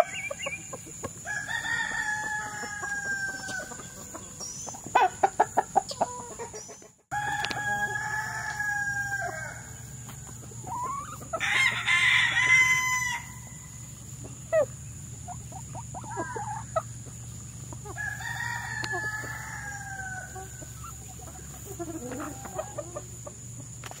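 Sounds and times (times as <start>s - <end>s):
roosters crowing: 0.0s - 23.8s
hens clucking: 0.0s - 24.0s.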